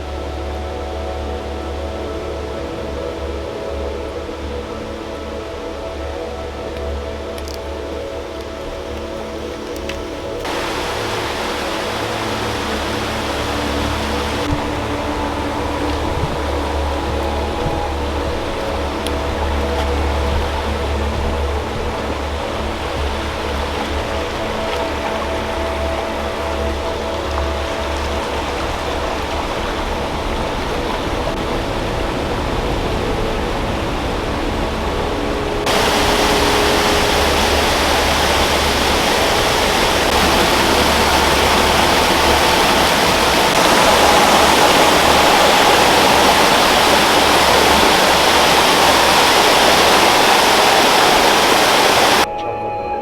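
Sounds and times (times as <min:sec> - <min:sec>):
water rushing over rocks: 0:00.0 - 0:52.3.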